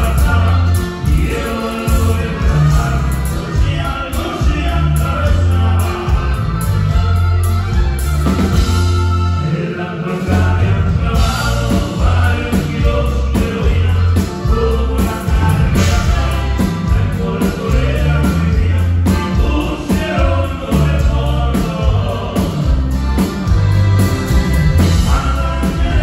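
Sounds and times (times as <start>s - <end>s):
bass low notes: 0.0s - 9.5s, 10.2s - 26.0s
live band with singing: 0.0s - 26.0s.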